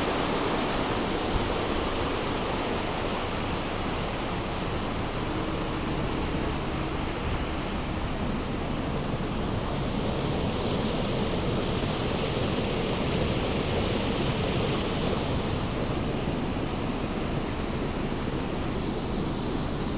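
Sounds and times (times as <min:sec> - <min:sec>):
waterfall rushing and splashing: 0:00.0 - 0:19.9.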